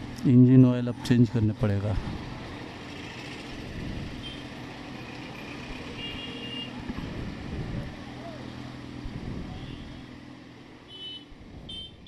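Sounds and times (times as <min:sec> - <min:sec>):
traffic engines humming: 0:00.0 - 0:12.0.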